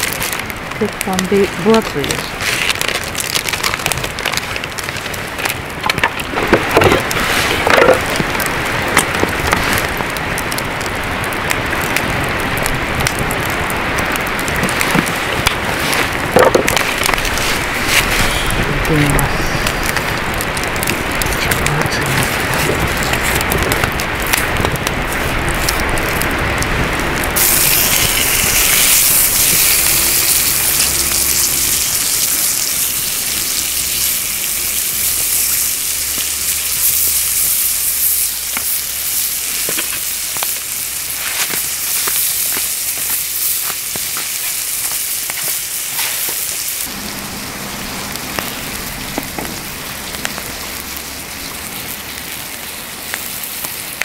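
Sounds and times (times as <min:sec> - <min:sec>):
burning wood crackling: 0:00.0 - 0:54.0
meat sizzling on griddle: 0:00.0 - 0:54.0.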